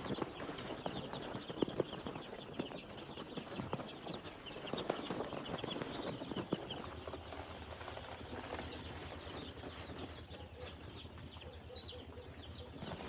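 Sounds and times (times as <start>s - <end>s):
chickens peeping: 0.0s - 13.0s.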